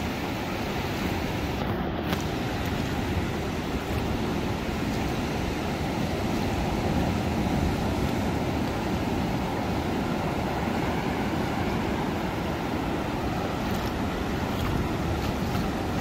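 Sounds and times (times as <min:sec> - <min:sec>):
surf washing over sand: 0:00.0 - 0:16.0
wind rumbling on microphone: 0:00.0 - 0:16.0.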